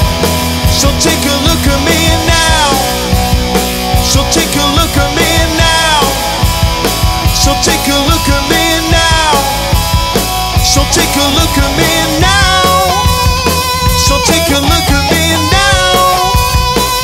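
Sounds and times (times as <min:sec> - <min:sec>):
drum kit beat: 0:00.0 - 0:17.0
rock band playing live: 0:00.0 - 0:17.0.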